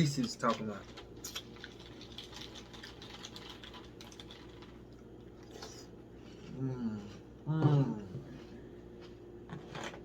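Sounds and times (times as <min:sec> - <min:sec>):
person chewing cereal: 0:00.0 - 0:09.3.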